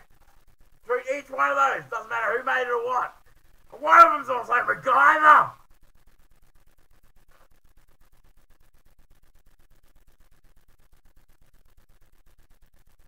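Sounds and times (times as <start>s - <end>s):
fluttering background hiss: 0.0s - 13.0s.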